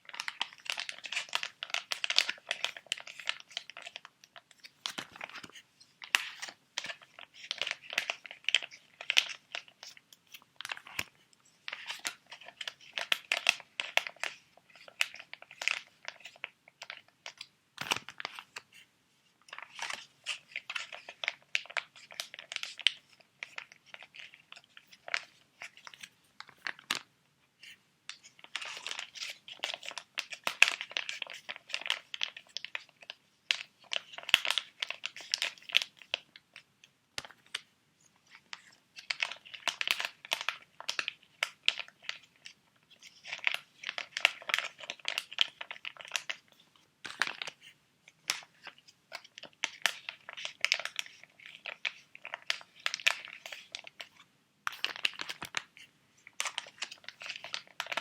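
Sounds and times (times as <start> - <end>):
plastic packets crinkling: 0.0 - 18.6, 19.5 - 27.1, 28.1 - 36.6, 38.3 - 58.0.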